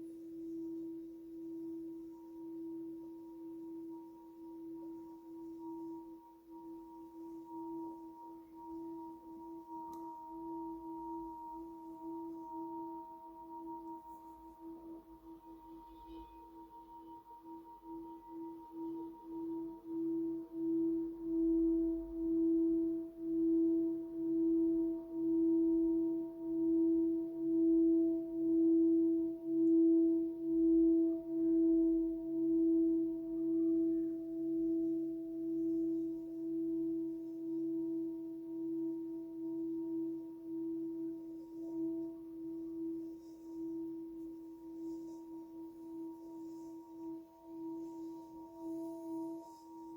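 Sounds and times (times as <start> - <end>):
singing bowl wavering tone: 0.0 - 49.9.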